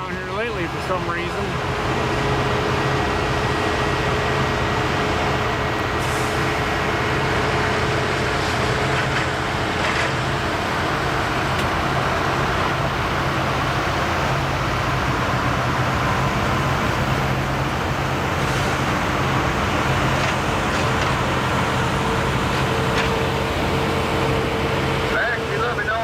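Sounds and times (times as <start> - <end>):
engines running hum: 0.0 - 26.0.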